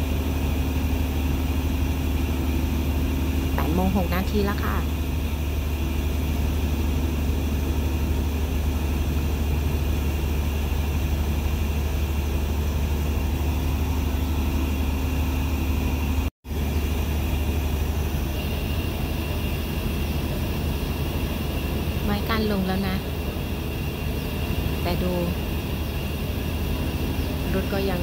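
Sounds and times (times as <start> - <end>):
diesel locomotive idling: 0.0 - 28.0.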